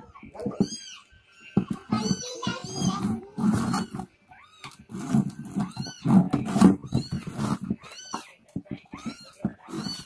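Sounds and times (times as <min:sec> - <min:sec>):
kittens mewing: 0:00.0 - 0:10.0.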